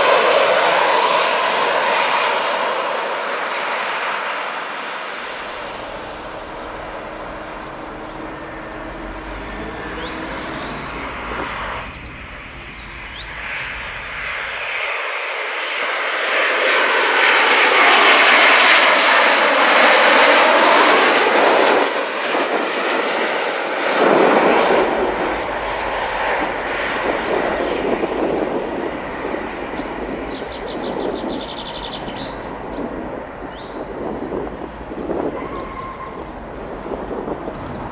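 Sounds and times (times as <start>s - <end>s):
distant jet noise on runway: 0.0s - 37.9s
jet airliner passing overhead: 0.0s - 37.9s.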